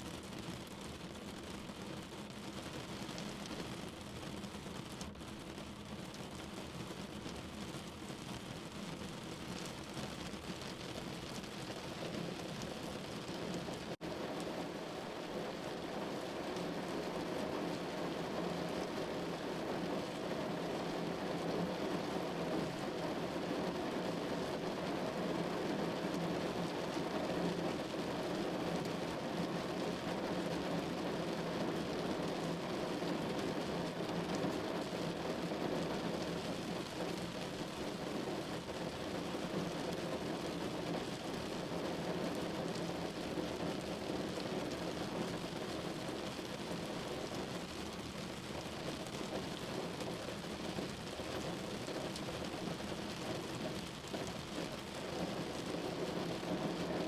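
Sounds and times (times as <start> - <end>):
rain falling on a window: 0.0 - 57.0.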